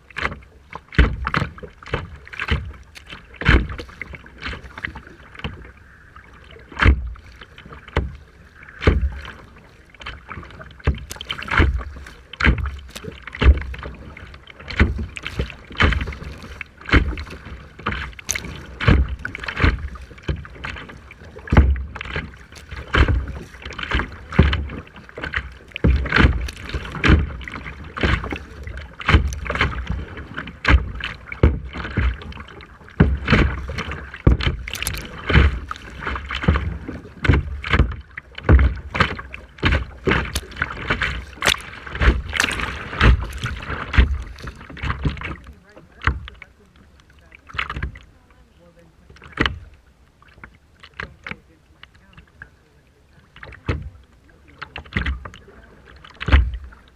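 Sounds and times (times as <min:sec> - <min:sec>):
choppy water splashing: 0:00.0 - 0:56.9.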